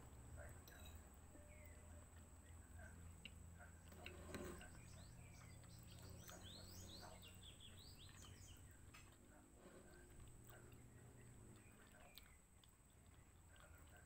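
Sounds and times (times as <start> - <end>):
faint bird chirping: 0.1 - 14.0.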